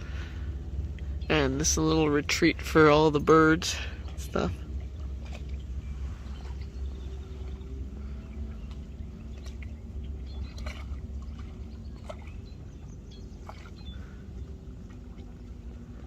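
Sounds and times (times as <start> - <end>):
water splashing: 0.0 - 16.0
wind rumble on microphone: 0.0 - 16.0.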